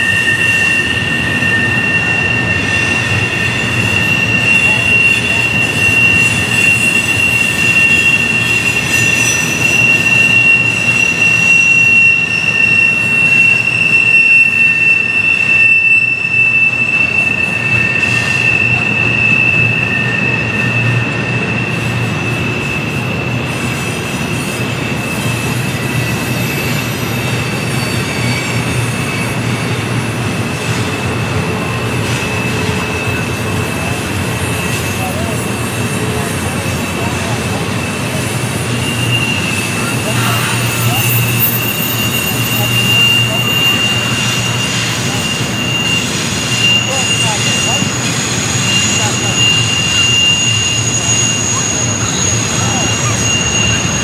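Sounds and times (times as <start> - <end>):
rumble of train cars: 0.0 - 54.0
train wheels squealing: 0.0 - 54.0.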